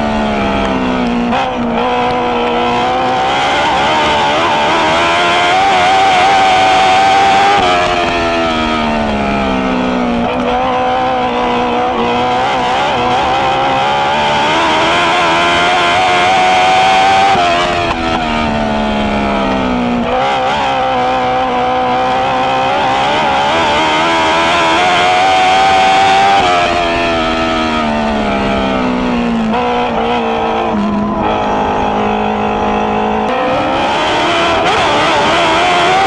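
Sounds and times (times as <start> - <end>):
race car engine at high revs: 0.0 - 36.0.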